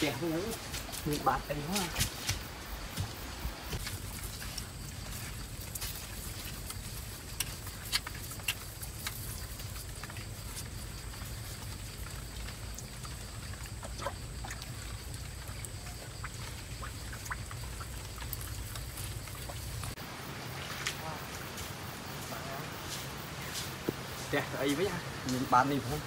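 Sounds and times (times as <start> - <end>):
tortoise feet splashing in mud: 0.0 - 26.0.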